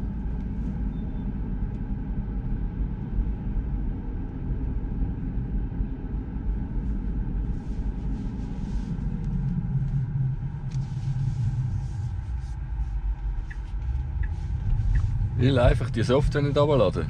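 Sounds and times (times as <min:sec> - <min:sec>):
road and tyre rumble in car: 0:00.0 - 0:17.0.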